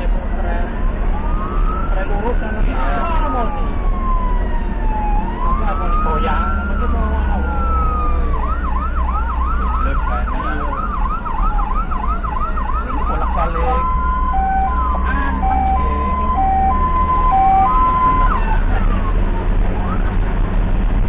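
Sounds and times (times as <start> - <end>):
engine and road rumble: 0.0 - 21.0
ambulance siren: 0.6 - 20.4.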